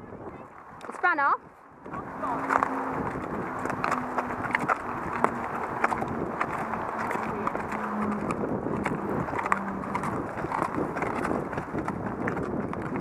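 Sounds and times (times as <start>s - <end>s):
horse hooves on gravel: 1.9s - 13.0s.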